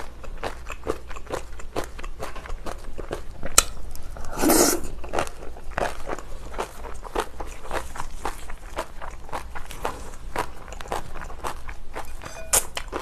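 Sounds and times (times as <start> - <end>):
chewing and crunching: 0.0 - 4.2, 4.8 - 13.0.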